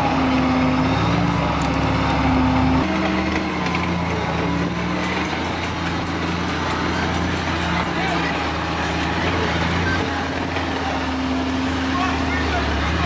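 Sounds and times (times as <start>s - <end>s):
armoured vehicle engine running: 0.0s - 13.0s
off-road vehicle engine driving: 0.0s - 13.0s.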